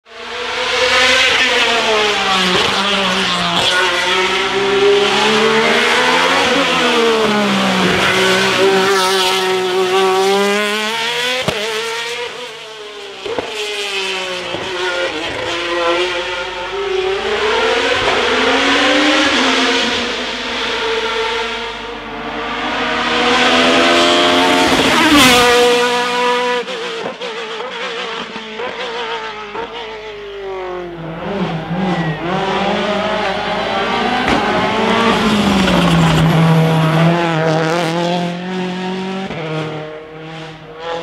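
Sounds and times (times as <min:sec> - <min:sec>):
racing car engine at full throttle: 0:00.0 - 0:41.0.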